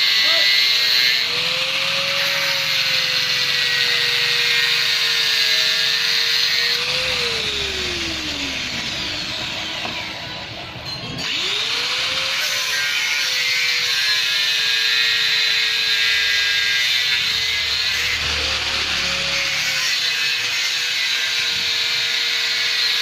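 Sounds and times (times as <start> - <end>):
electric cutting tool whining: 0.0 - 23.0.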